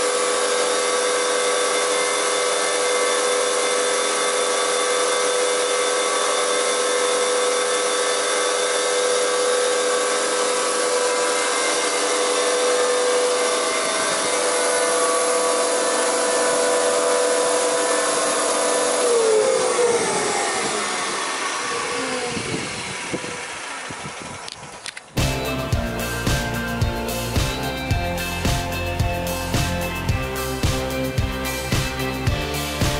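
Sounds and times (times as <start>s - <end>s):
planer motors whining: 0.0s - 32.9s.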